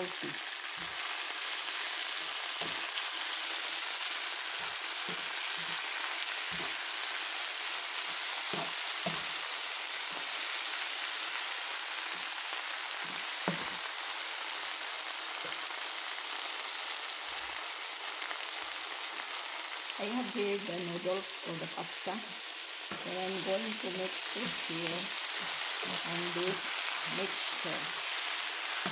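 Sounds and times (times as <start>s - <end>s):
food sizzling in a hot pan: 0.0s - 28.9s.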